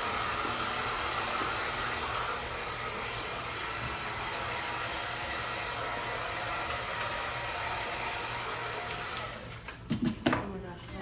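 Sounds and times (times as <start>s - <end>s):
hair dryer blowing: 0.0s - 9.6s.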